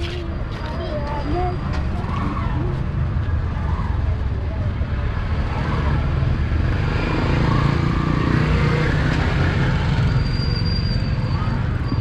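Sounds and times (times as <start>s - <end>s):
auto-rickshaw engines passing: 0.0s - 12.0s.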